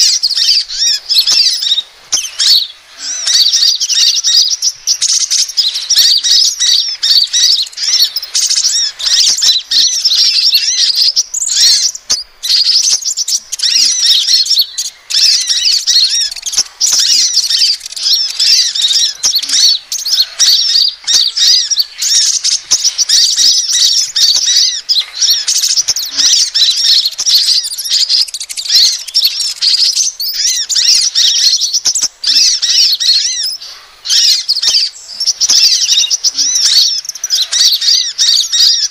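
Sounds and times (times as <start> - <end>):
high quick bird chirps: 0.0 - 38.9.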